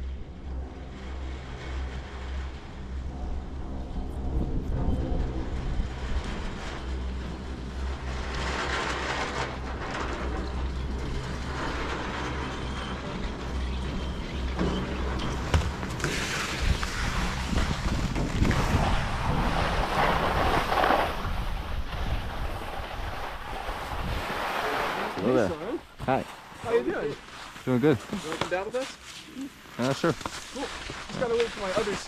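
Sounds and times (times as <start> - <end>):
chairlift humming: 0.0 - 32.0
skis sliding on snow: 5.4 - 13.8, 14.6 - 32.0.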